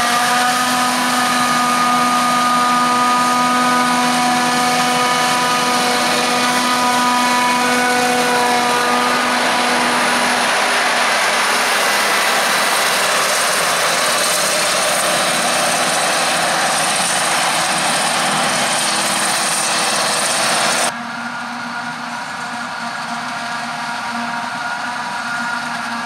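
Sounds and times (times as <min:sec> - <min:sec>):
forage harvester chopping: 0:00.0 - 0:20.9
distant tractor running: 0:00.0 - 0:26.0
machinery whining tones: 0:00.0 - 0:26.0.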